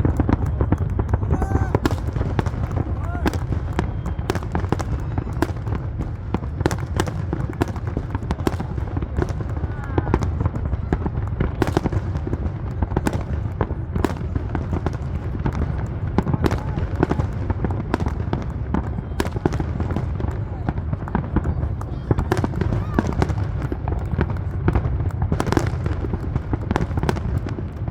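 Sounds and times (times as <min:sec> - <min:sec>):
fireworks banging: 0:00.0 - 0:27.9.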